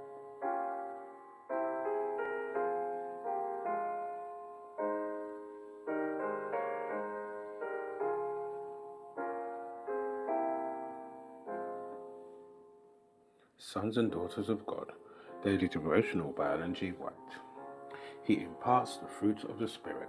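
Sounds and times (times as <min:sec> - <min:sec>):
slow soft piano chords: 0:00.0 - 0:20.0.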